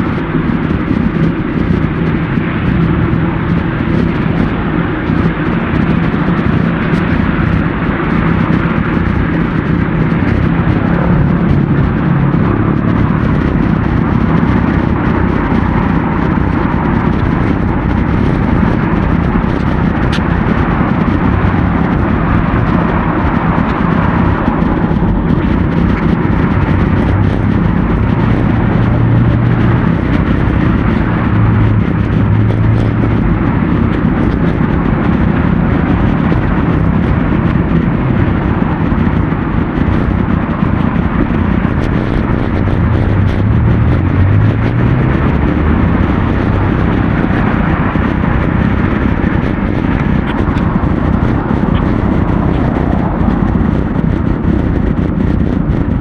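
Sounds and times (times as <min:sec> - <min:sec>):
rushing air on microphone: 0:00.0 - 0:56.0
traffic: 0:00.0 - 0:56.0.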